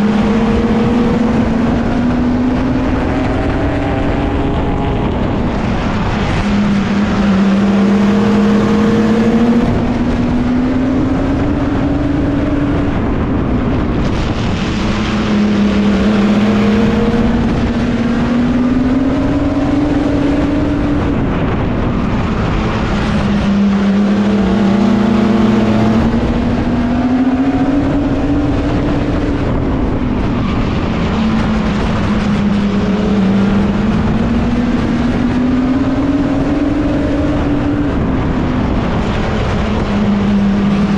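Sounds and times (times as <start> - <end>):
racing truck engine accelerating: 0.0 - 40.9.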